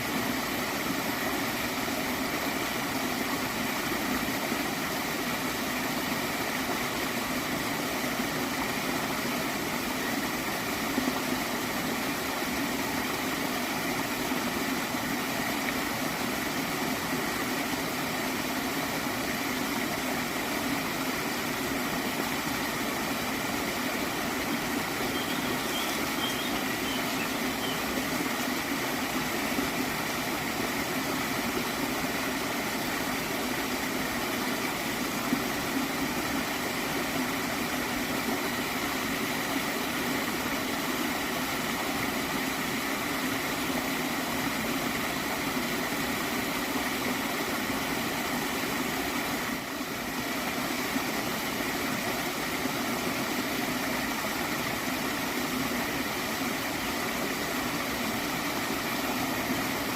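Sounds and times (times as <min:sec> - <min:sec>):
stream water flowing and gurgling: 0:00.0 - 0:59.9.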